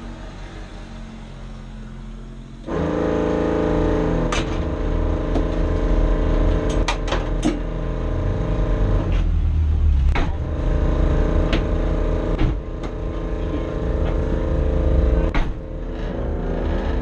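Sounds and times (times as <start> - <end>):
race car engine idling: 0.0 - 17.0.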